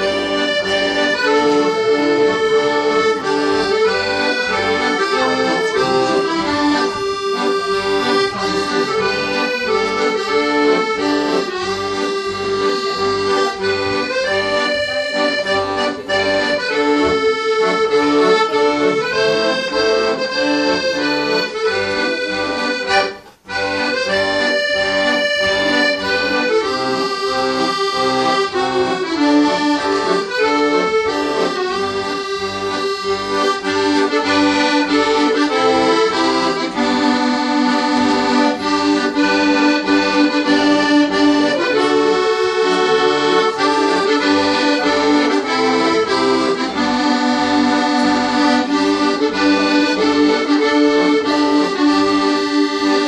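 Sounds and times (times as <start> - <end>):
piano accordion playing a tune: 0.0 - 53.0.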